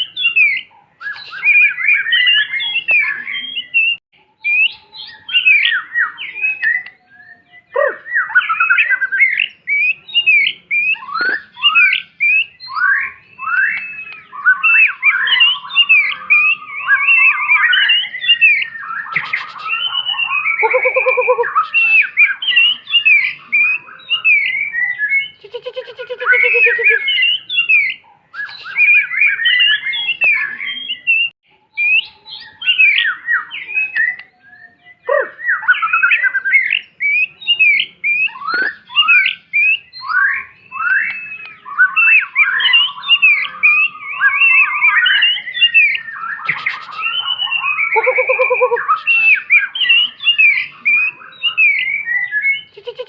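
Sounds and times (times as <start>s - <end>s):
bird singing whistled phrases: 0.0s - 53.0s
harsh rasping bird calls: 0.0s - 53.0s.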